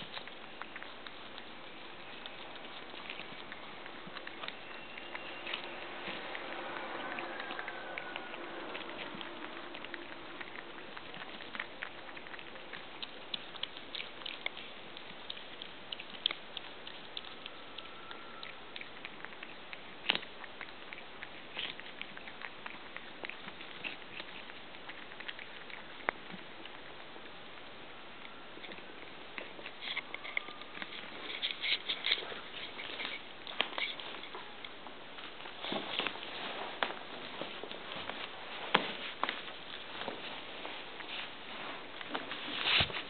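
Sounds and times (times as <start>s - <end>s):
pets crunching corn: 0.0s - 43.0s.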